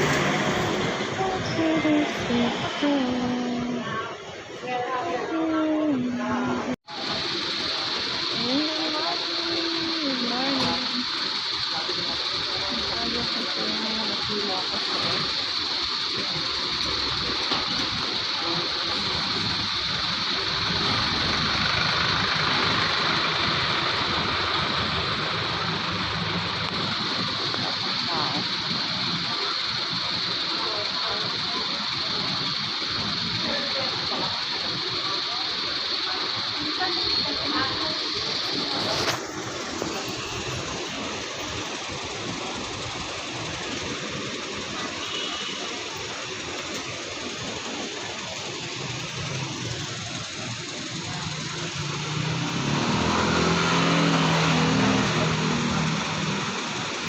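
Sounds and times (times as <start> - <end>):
street traffic rumble: 0.0 - 57.0
vehicle engines idling: 0.0 - 57.0.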